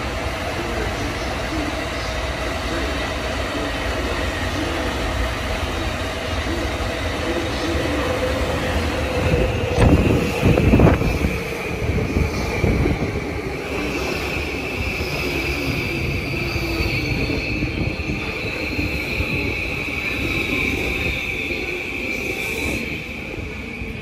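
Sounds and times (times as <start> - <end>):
electric train whine: 0.0 - 24.0
train rolling noise: 0.0 - 24.0.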